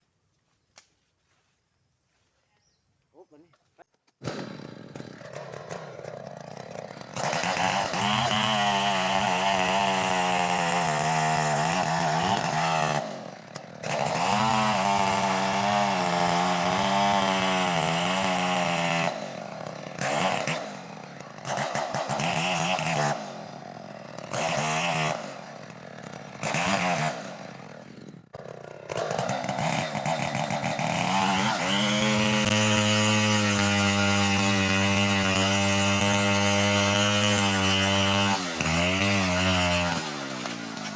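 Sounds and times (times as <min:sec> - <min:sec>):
chainsaw cutting timber: 0:04.1 - 0:40.9.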